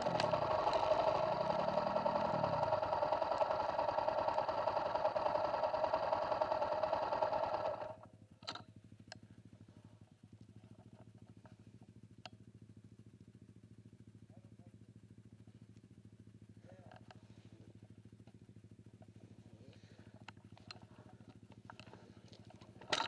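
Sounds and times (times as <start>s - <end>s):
dirt bike engine idling: 0.0s - 23.0s
faint low engine idle: 0.0s - 23.0s.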